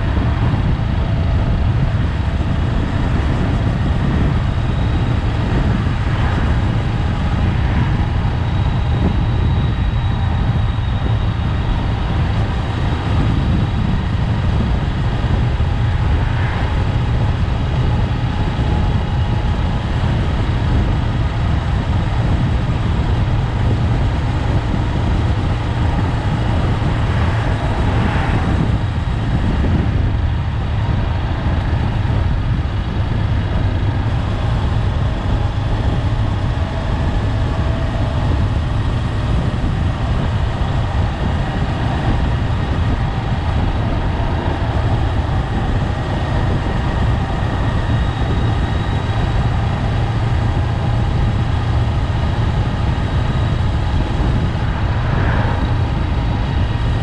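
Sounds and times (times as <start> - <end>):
motorcycle engine running: 0.0 - 57.0
road noise: 0.0 - 57.0
wind noise: 0.0 - 57.0.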